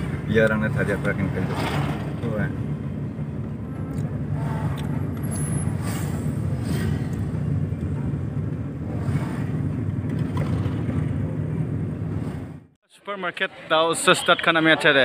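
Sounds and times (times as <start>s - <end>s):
vehicle driving on road: 0.0s - 12.8s
traffic passing: 0.0s - 15.0s.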